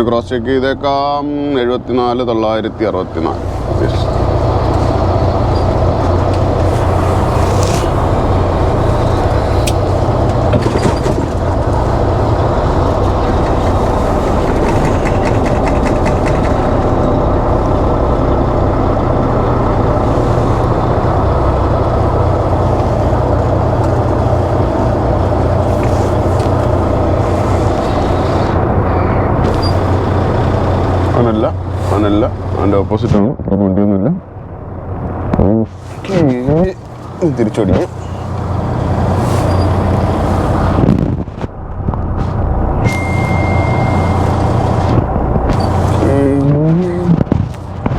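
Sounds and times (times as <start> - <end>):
diesel engine running: 0.0 - 33.4, 34.2 - 47.9.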